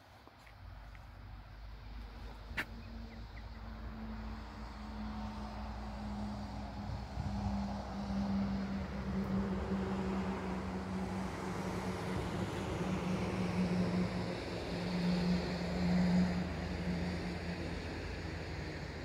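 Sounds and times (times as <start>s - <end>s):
traffic noise: 0.0s - 19.0s
vehicle engine humming: 0.2s - 19.0s.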